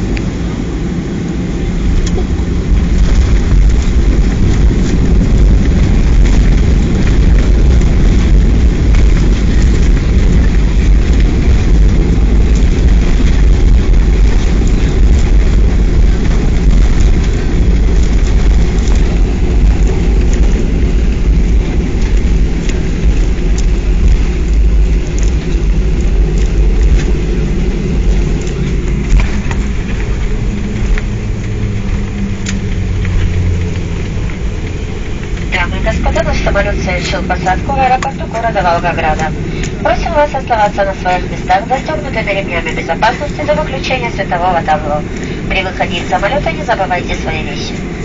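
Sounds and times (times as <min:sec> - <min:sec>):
engines and wheels rumbling: 0:00.0 - 0:48.0.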